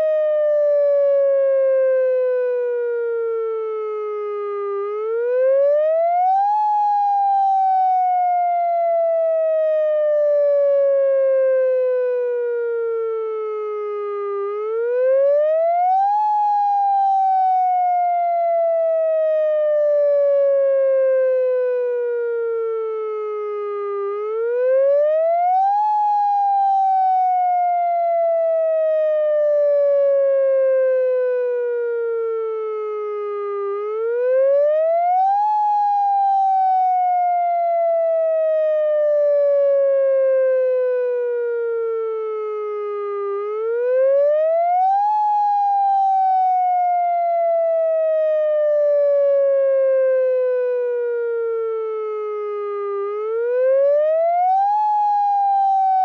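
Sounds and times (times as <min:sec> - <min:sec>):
outdoor warning siren wailing: 0:00.0 - 0:56.0.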